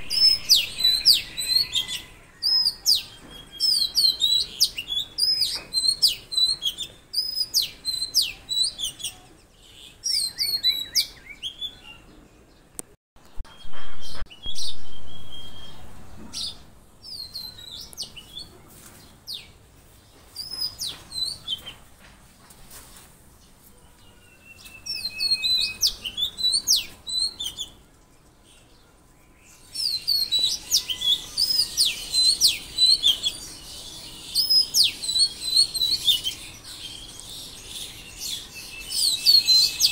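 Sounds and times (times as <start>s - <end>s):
small songbirds chirping: 0.0s - 21.9s, 22.8s - 39.9s.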